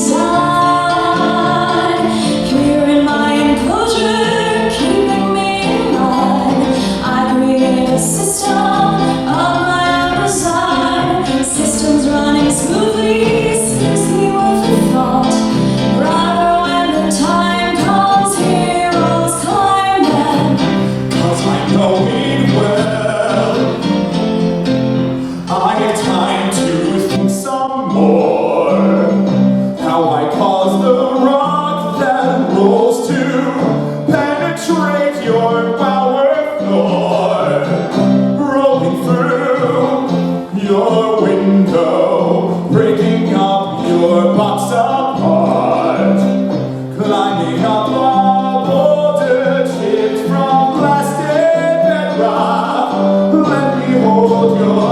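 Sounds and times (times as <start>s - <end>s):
person singing with instruments: 0.0s - 54.9s.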